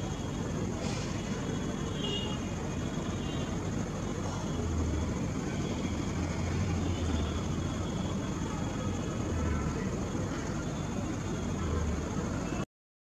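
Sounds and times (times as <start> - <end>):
city traffic rumble: 0.0 - 12.7.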